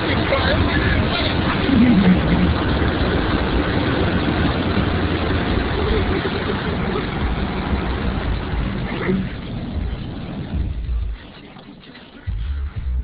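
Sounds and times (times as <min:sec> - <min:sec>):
car wash water and machinery: 0:00.0 - 0:13.0
low rumble: 0:00.0 - 0:13.0.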